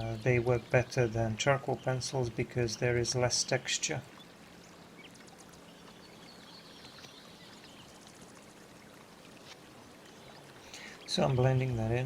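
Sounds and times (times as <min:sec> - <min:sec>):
faint flowing water: 0:00.0 - 0:12.0.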